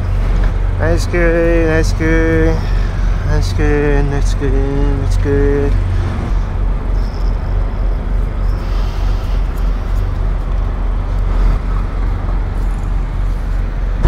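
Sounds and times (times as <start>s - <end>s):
refrigeration unit droning: 0.0s - 14.0s.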